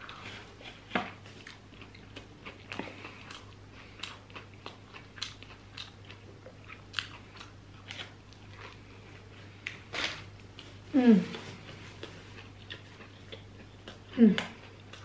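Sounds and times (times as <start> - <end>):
low steady hum: 0.0 - 15.0
person chewing: 0.0 - 15.0.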